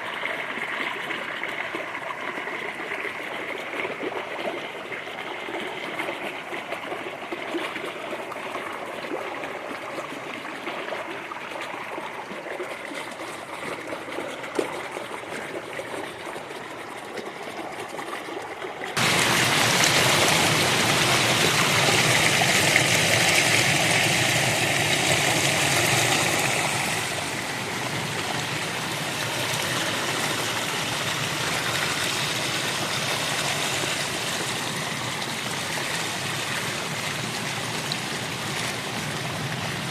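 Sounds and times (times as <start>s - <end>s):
creek babbling over stones: 0.0s - 39.9s
rush of running water: 0.0s - 39.9s.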